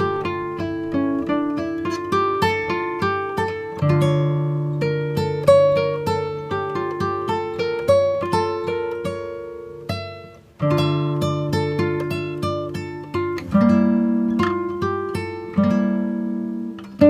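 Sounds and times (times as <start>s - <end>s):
acoustic guitar plucked notes and chords: 0.0s - 17.0s.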